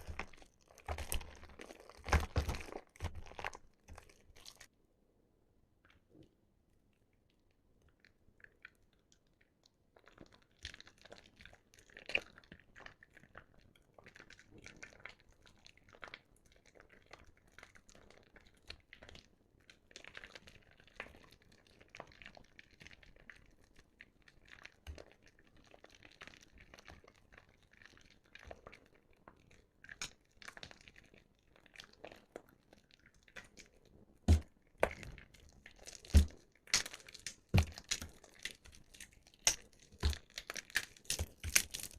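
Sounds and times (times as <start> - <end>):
wet soap squished by hand: 0.0 - 4.7, 5.8 - 41.9.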